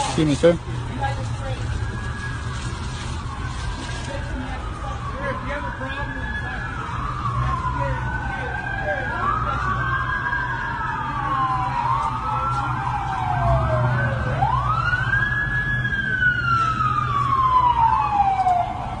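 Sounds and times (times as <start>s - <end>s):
emergency sirens wailing: 0.0s - 19.0s.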